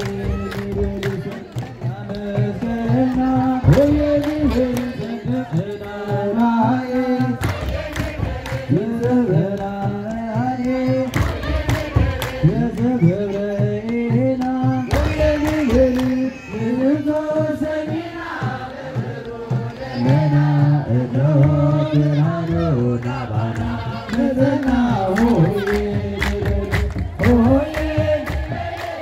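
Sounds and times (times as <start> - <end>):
drum beating: 0.0 - 29.0
congregation singing a hymn: 2.1 - 29.0.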